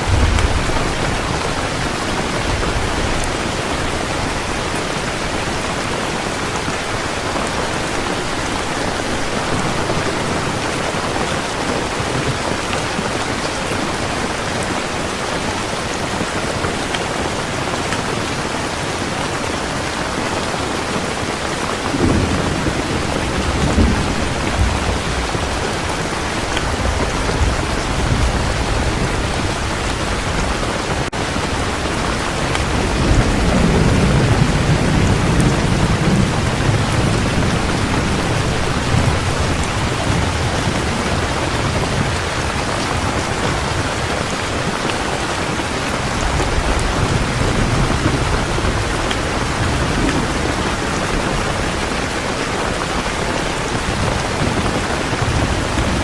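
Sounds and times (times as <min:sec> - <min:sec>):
low rolling thunder: 0:00.0 - 0:12.4, 0:21.7 - 0:56.0
heavy rain falling: 0:00.0 - 0:56.0.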